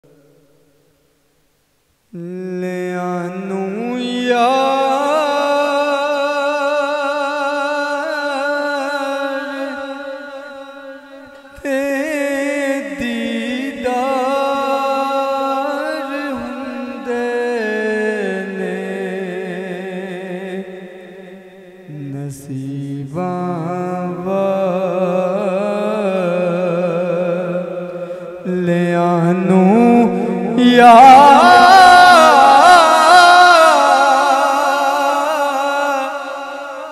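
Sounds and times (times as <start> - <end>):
man singing: 2.1 - 36.9.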